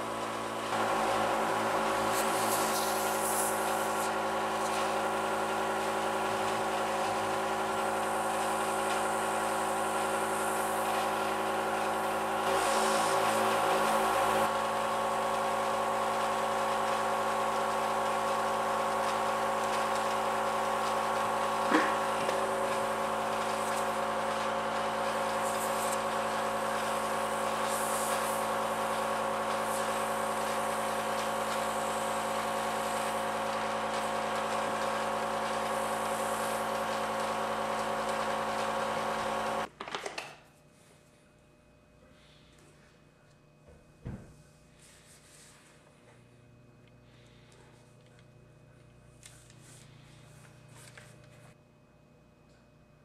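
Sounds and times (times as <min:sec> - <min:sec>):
air compressor humming: 0:00.0 - 0:39.7, 0:41.8 - 0:51.6.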